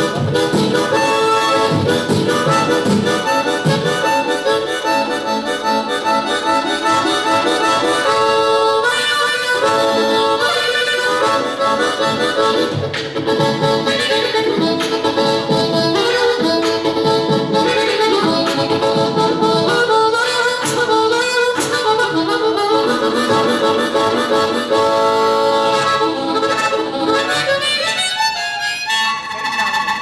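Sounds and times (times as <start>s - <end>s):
beatboxed mouth percussion: 0.0s - 30.0s
harmonica: 0.0s - 30.0s.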